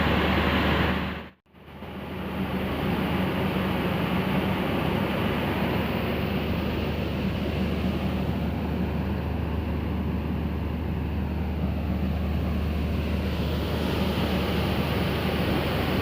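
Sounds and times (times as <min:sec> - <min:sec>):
low engine hum: 0:00.0 - 0:16.0
train rumble: 0:00.0 - 0:16.0.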